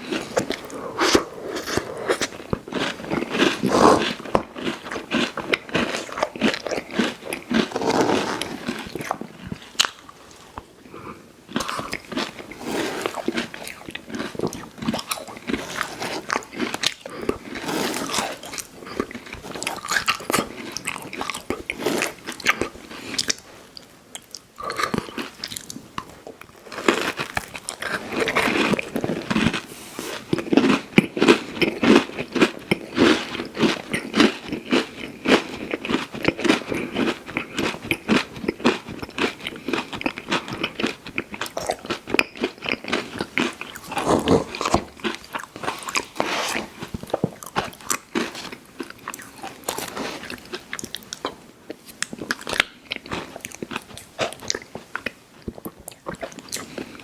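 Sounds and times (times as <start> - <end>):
person chewing candy: 0.0 - 57.0.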